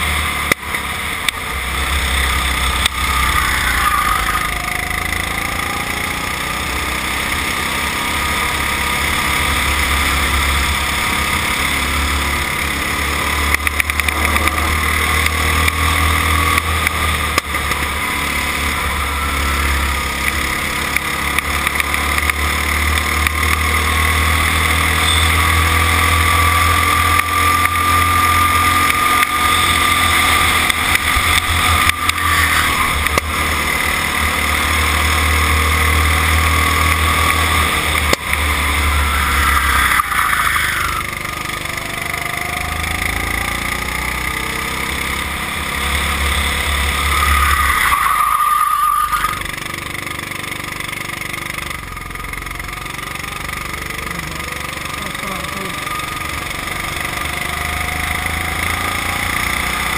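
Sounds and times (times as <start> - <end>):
kart engine running: 0.0 - 59.9.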